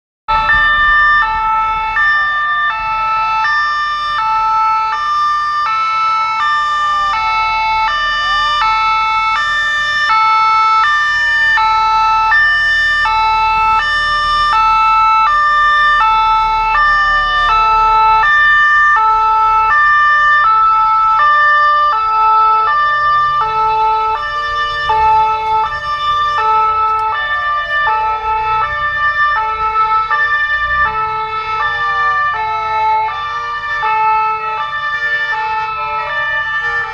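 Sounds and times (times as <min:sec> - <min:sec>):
two-tone siren: 0:00.3 - 0:36.9
wailing siren: 0:00.3 - 0:36.9.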